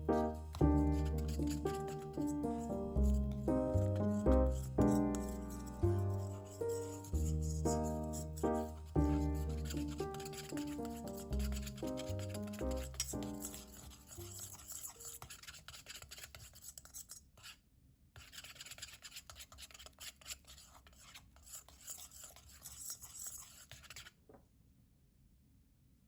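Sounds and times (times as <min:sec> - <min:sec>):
utensil scraping in a bowl: 0:00.0 - 0:17.6, 0:18.2 - 0:24.1.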